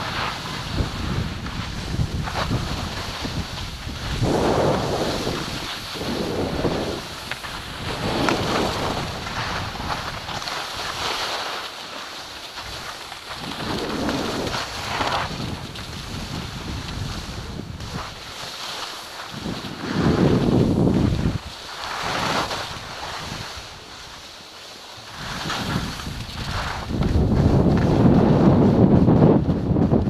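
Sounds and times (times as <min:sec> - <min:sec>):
wind on microphone: 0:00.0 - 0:11.1, 0:12.6 - 0:18.3, 0:19.3 - 0:24.0, 0:25.0 - 0:30.0
skis scraping over snow: 0:00.0 - 0:30.0.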